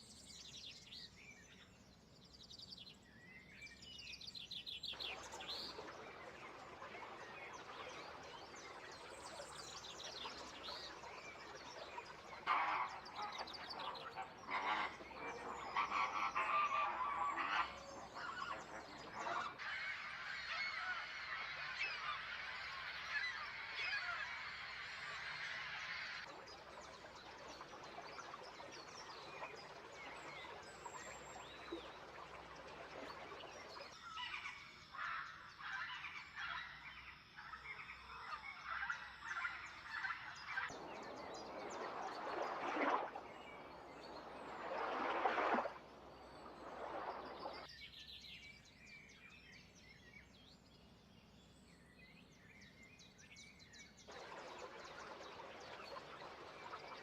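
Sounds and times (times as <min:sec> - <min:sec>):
birds chirping: 0:04.5 - 0:36.8, 0:37.5 - 0:47.8, 0:53.8 - 0:57.0.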